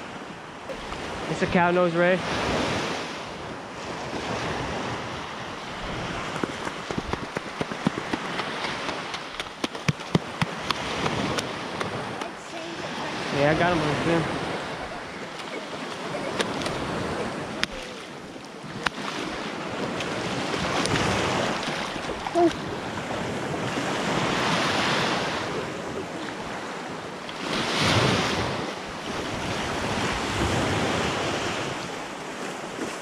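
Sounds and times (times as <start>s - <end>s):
surf waves breaking on sand: 0.0s - 33.0s
wind buffeting microphone: 2.4s - 32.0s.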